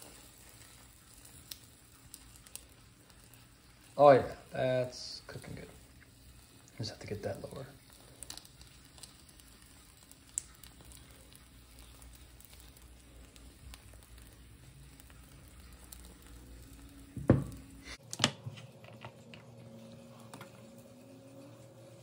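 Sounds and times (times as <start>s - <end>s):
omelette sizzling in a frying pan: 0.0s - 22.0s.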